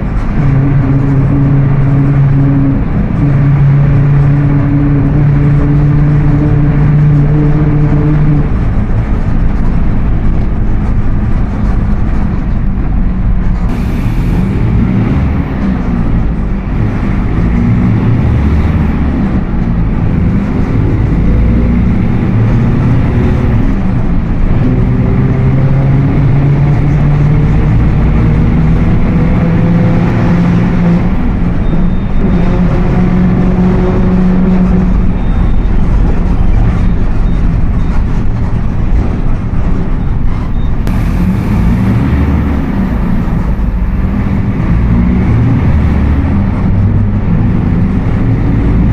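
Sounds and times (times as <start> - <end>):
bus engine running: 0.0 - 48.9.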